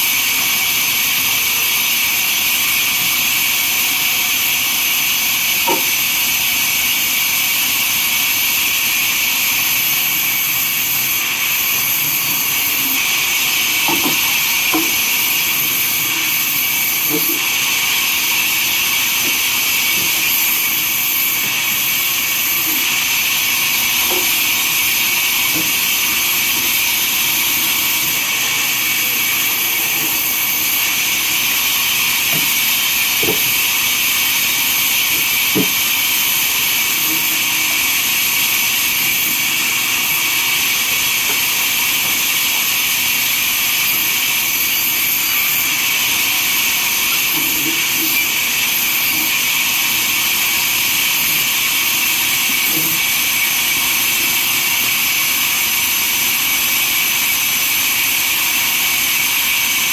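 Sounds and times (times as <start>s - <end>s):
sawmill saw cutting wood: 0.0s - 59.9s.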